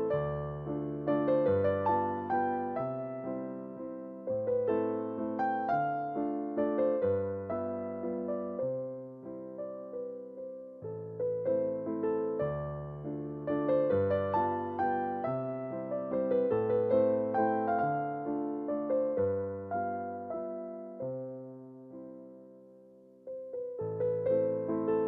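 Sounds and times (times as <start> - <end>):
gentle electric piano piece: 0.0 - 25.0.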